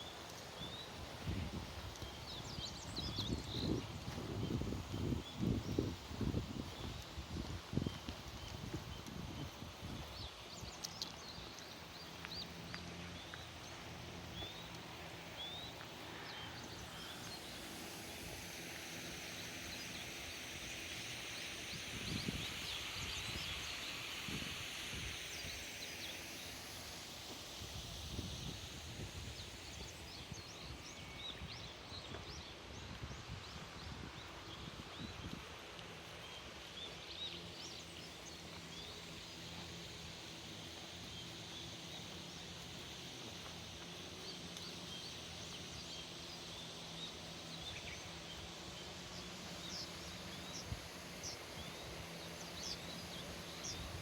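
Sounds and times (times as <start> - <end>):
hiss: 0.0 - 54.0.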